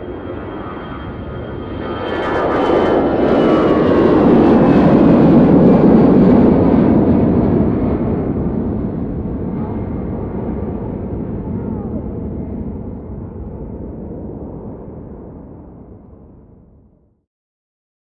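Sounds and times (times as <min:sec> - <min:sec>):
jet airliner taking off: 0:00.0 - 0:16.9.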